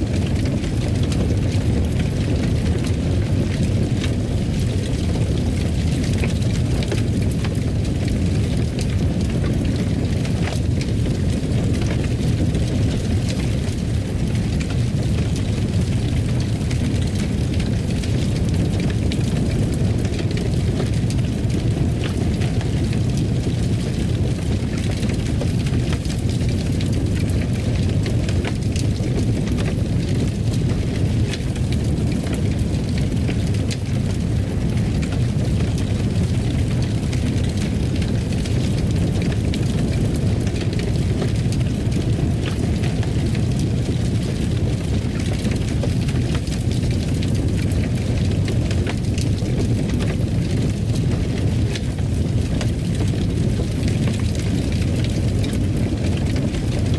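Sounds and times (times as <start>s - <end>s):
fire crackles and pops: 0.0s - 56.9s
fire low rumble: 0.0s - 56.9s.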